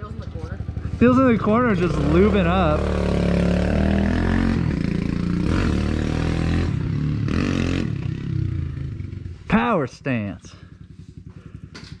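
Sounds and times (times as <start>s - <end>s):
small motorbike engine running: 0.0s - 9.4s, 10.5s - 12.0s.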